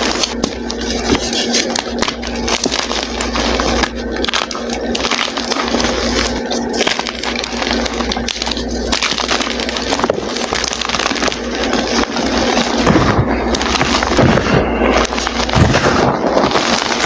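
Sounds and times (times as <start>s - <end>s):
chalk being crushed: 0.0s - 17.0s.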